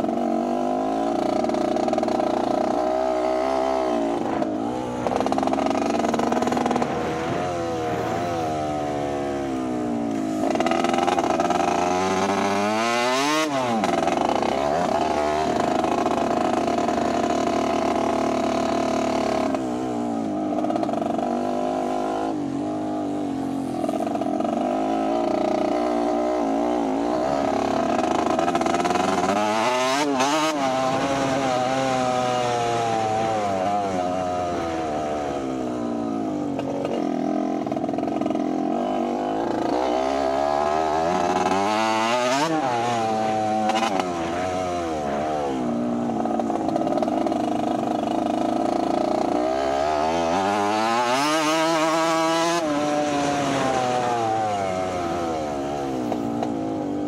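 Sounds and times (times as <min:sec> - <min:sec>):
motocross engines revving: 0:00.0 - 0:57.0.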